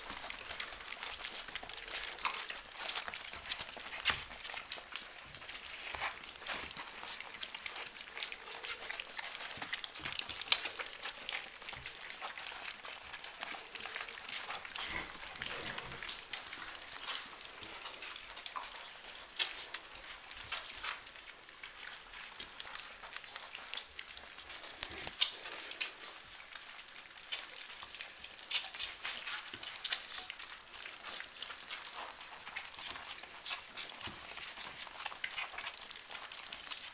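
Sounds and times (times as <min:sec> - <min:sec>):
puppies lapping and chewing: 0:00.0 - 0:36.9.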